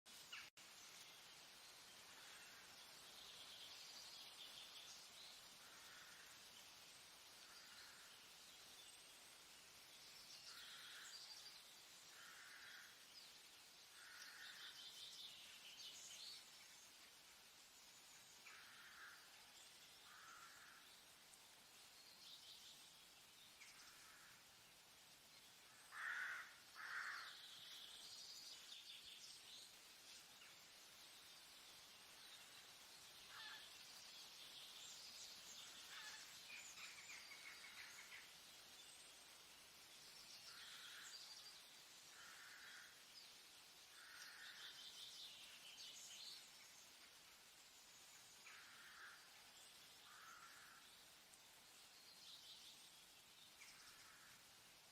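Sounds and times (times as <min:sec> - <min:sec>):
soft steady hiss: 0:00.1 - 0:54.9.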